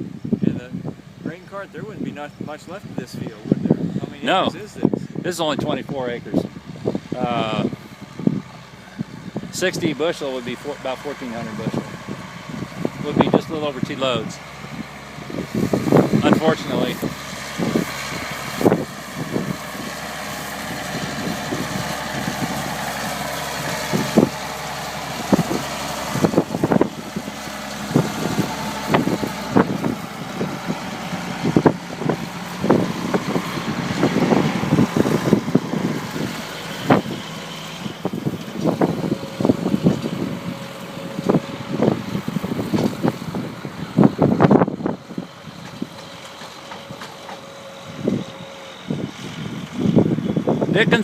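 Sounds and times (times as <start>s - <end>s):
wind thumping on microphone: 0.0s - 10.0s, 11.4s - 47.2s, 47.8s - 51.0s
vehicle engine running: 0.0s - 51.0s
wind noise: 0.0s - 51.0s.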